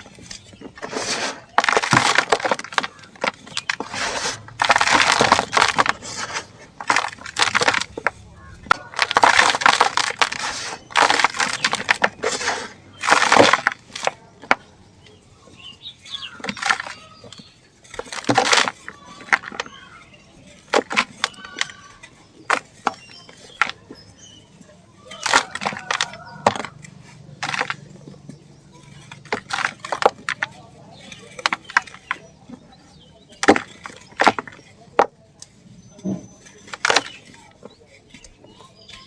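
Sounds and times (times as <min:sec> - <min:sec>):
dry chunks crumbling: 0:00.0 - 0:39.0.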